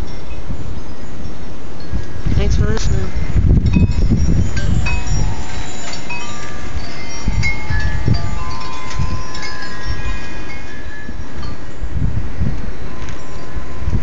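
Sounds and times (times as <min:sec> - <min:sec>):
strong wind rumbling through trees: 0:00.0 - 0:14.0
wind chimes ringing: 0:00.0 - 0:14.0.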